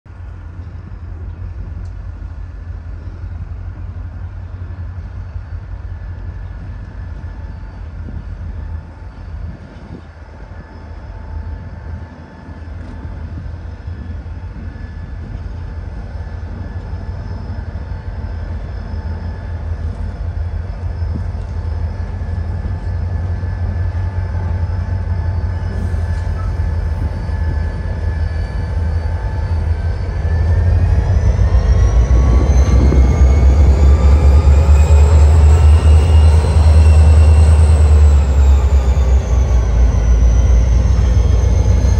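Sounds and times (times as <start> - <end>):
diesel locomotive engine rumble: 0.0 - 41.9.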